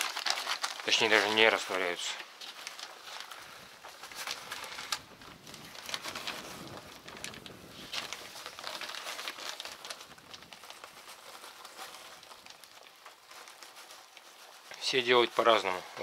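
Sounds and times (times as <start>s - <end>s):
plastic sack crinkling: 0.0s - 16.0s.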